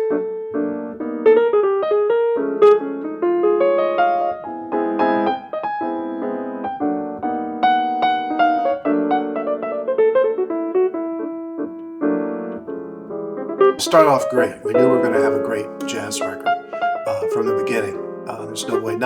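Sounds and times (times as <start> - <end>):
piano playing chords and notes: 0.0 - 19.0.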